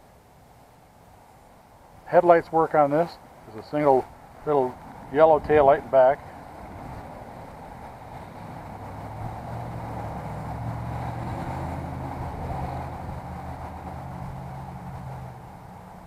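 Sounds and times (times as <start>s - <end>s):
low engine hum: 2.6s - 16.0s.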